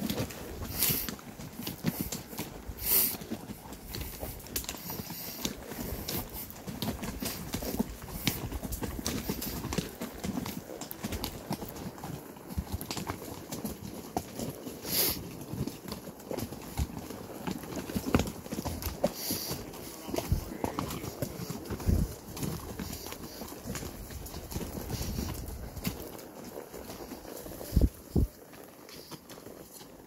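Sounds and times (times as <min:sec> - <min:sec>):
hooves clopping on rocky trail: 0:00.0 - 0:30.0.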